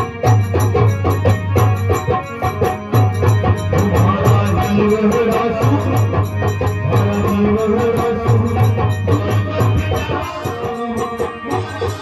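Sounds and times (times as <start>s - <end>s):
drum beat: 0.0s - 12.0s
harmonium held notes: 0.0s - 12.0s.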